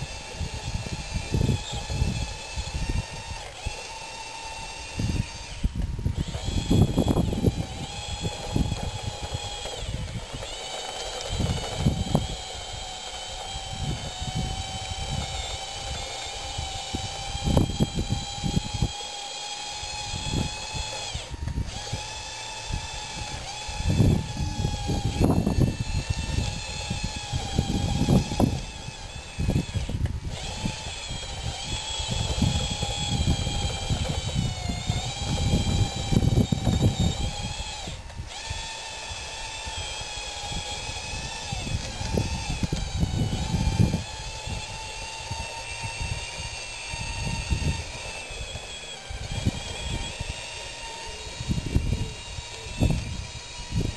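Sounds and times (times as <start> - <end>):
gusty low rumbling: 0.0 - 10.6, 11.2 - 19.0, 19.7 - 53.9
electric drive whining: 0.0 - 53.9.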